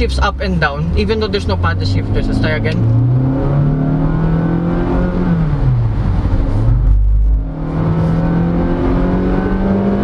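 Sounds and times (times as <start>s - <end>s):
car engine accelerating hard: 0.1s - 10.0s.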